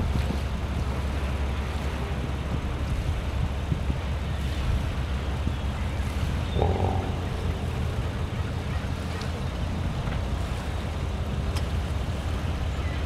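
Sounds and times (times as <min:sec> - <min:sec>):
ship engines rumbling: 0:00.0 - 0:13.0.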